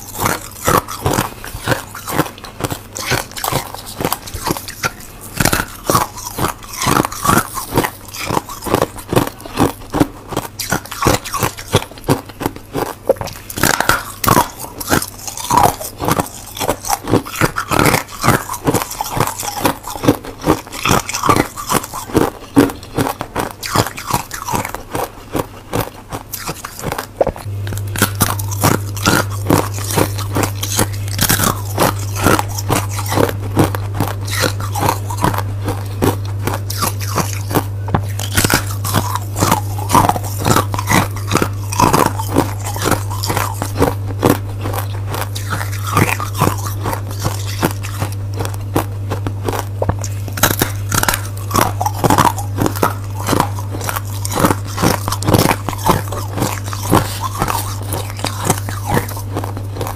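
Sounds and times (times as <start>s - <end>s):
crunchy chewing of ice: 0.0s - 59.9s
low steady hum: 0.0s - 59.9s.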